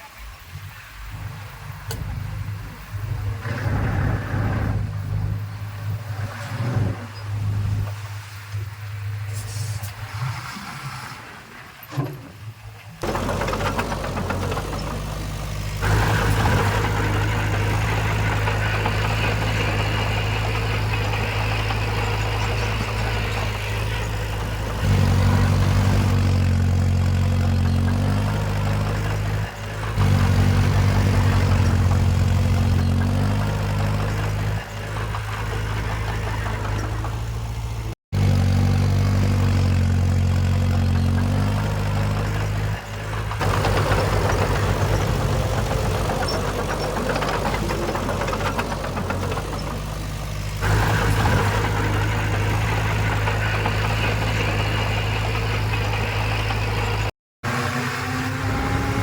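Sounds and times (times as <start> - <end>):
heavy machinery diesel engine droning: 0.0 - 59.0.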